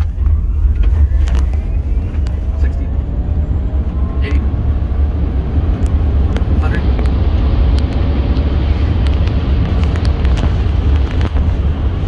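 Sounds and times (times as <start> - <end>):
road and wind noise in a vehicle: 0.0 - 12.0.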